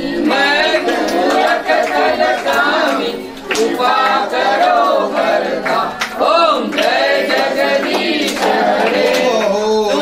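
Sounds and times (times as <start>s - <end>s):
group singing without instruments: 0.0s - 10.0s.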